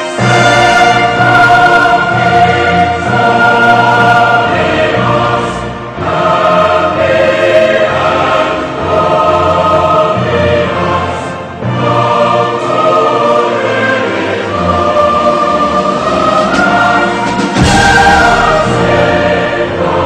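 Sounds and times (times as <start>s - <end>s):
choir singing with accompaniment: 0.0s - 20.0s.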